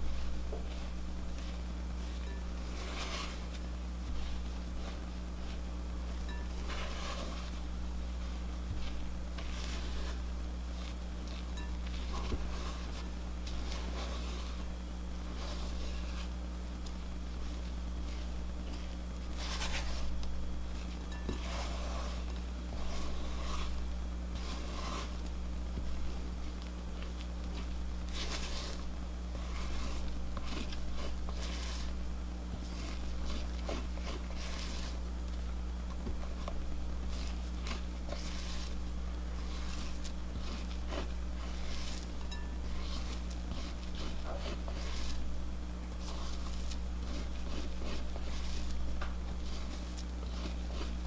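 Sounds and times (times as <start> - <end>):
low electrical hum: 0.0 - 51.0
spatula scraping mixing bowl: 0.0 - 51.0.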